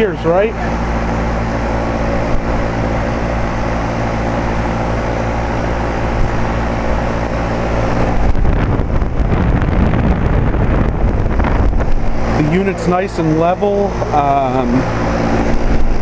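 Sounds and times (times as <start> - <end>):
air conditioner humming: 0.0 - 16.0
air rush buffeting microphone: 0.0 - 16.0.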